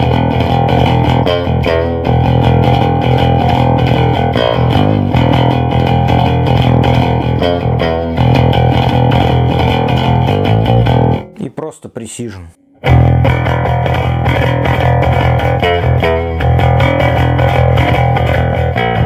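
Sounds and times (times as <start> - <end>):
electric bass guitar played with pick: 0.0 - 11.4, 12.6 - 19.0.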